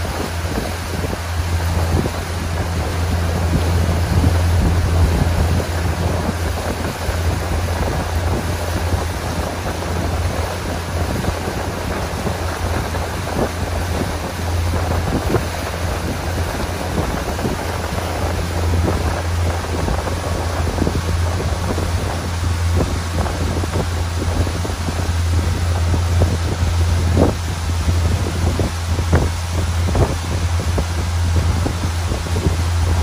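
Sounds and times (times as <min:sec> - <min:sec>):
boat engine drone: 0:00.0 - 0:33.0
water rushing past hull: 0:00.0 - 0:33.0
wind buffeting microphone: 0:00.0 - 0:33.0.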